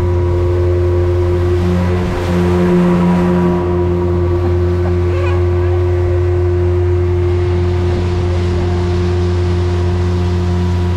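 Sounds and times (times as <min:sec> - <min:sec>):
speedboat engine droning: 0:00.0 - 0:10.9.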